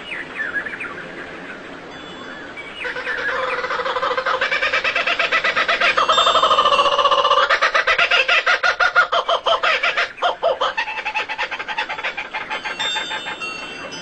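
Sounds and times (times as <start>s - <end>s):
bird clucking calls: 2.8s - 14.0s.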